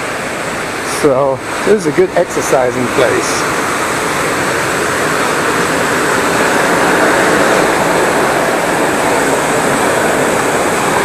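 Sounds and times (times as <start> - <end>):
water roaring through dam outflow: 0.0 - 11.0.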